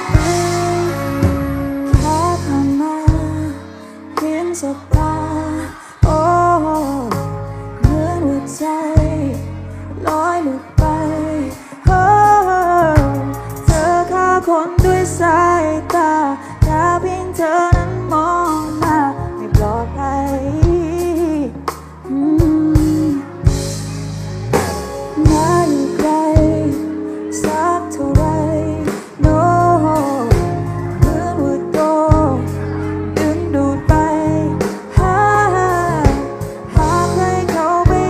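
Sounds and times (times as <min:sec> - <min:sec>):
woman singing slow song: 0:00.0 - 0:23.8, 0:25.2 - 0:38.0
instrumental backing with beat: 0:00.0 - 0:38.0.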